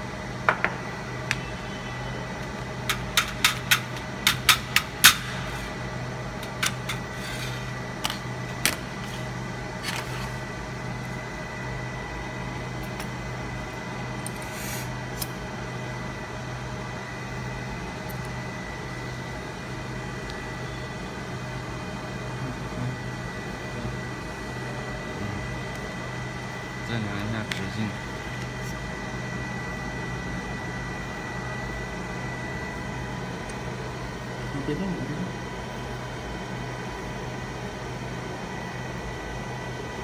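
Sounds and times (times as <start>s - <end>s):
machine humming: 0.0s - 40.0s.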